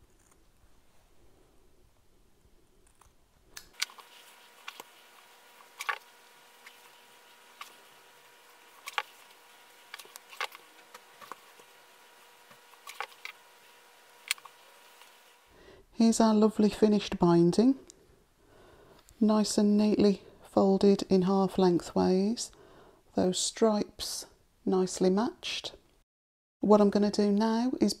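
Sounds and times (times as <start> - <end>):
faint steady hum: 0.0 - 23.2.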